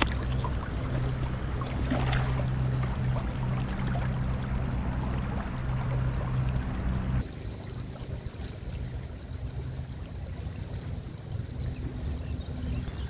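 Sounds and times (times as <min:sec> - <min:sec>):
water splash: 0:00.0 - 0:11.4
river water over rocks: 0:00.0 - 0:13.0.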